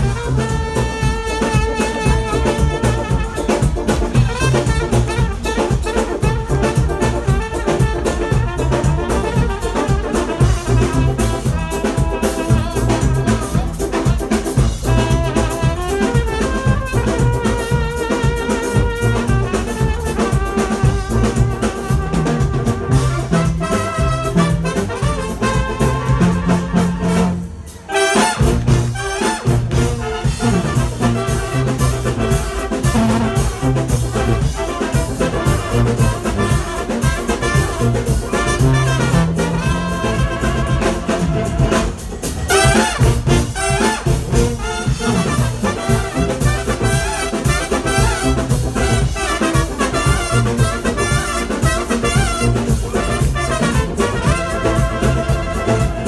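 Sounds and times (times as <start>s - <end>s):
drum kit beat: 0.0s - 56.0s
trumpets playing melody: 0.0s - 56.0s
tuba: 0.0s - 56.0s.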